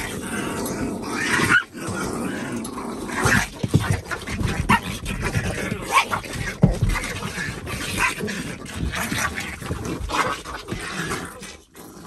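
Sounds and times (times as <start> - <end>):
small dogs growling: 0.0 - 12.0.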